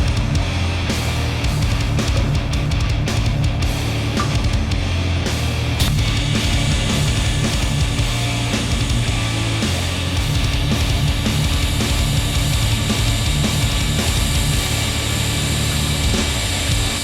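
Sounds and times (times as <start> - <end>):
distorted guitar: 0.0 - 17.0
drums: 0.0 - 17.0
heavy metal music: 0.0 - 17.0.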